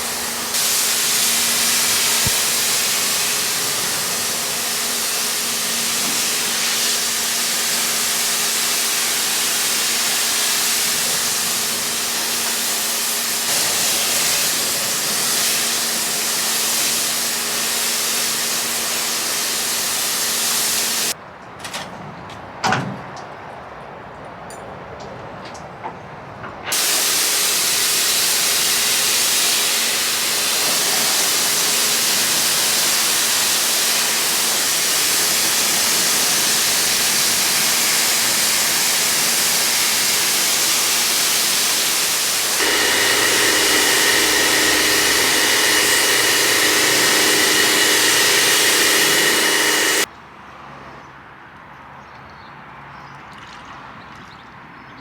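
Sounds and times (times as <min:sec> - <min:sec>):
loud hissing jet with whine: 0:00.0 - 0:21.2, 0:26.7 - 0:50.1.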